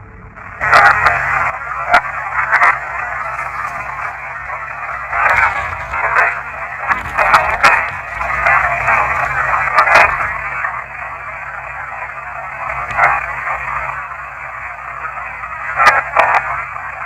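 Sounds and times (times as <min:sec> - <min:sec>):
tinny static hiss: 0:00.2 - 0:17.0
crackling bursts: 0:00.4 - 0:17.0.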